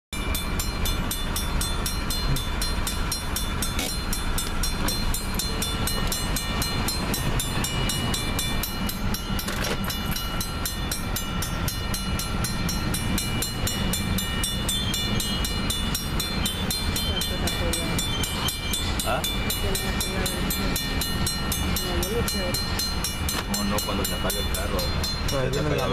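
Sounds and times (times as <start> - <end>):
crossing bell ringing: 0.2 - 25.9
train cars rolling: 0.2 - 25.9.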